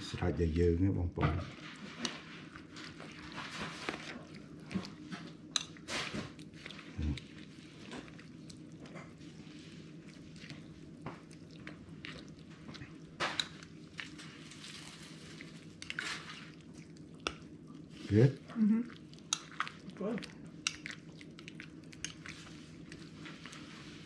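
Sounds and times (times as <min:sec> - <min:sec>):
wet squishing of porridge: 0:00.0 - 0:24.0.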